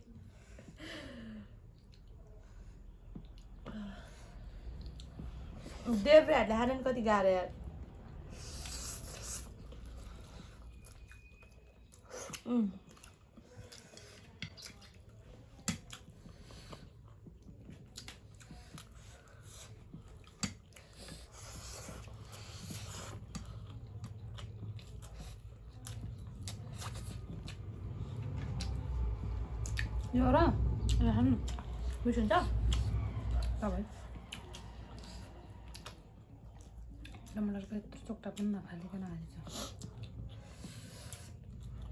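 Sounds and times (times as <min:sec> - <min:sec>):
chewing and biting food: 0:07.5 - 0:41.9.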